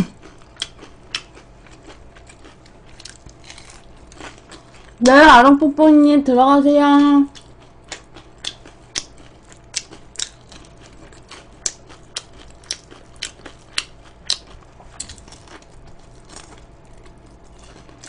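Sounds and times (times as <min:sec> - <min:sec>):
chewing crispy fried chicken: 0:00.0 - 0:05.2, 0:07.2 - 0:18.0.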